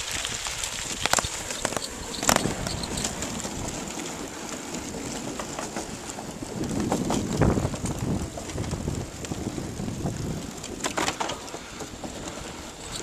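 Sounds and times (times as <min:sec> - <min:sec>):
bicycle clicks and rattles: 0:00.0 - 0:13.0
rushing wind while cycling: 0:00.0 - 0:13.0.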